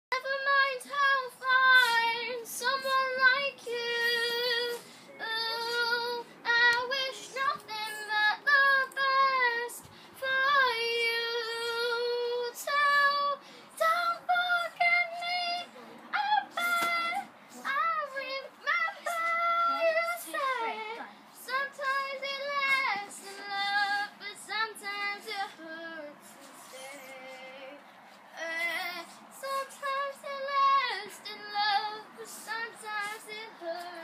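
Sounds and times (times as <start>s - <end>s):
child singing: 0.1s - 27.8s, 28.4s - 34.0s.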